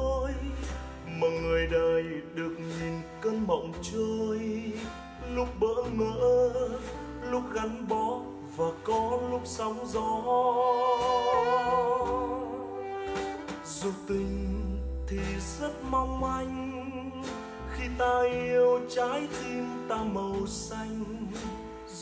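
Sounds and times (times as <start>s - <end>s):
ballad music playing: 0.0s - 22.0s.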